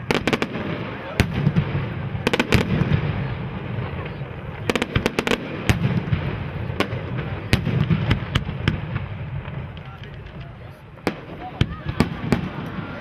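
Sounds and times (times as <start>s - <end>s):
fireworks bursting: 0.0s - 13.0s
murmur of crowd voices: 0.0s - 13.0s.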